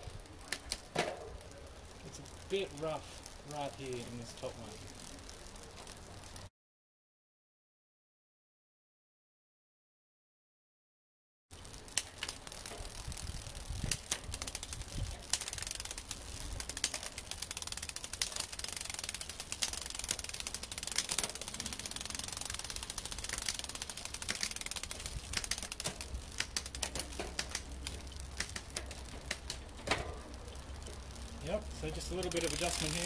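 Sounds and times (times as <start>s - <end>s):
bike chain rattling and clicking: 0.0s - 6.5s, 11.5s - 33.0s.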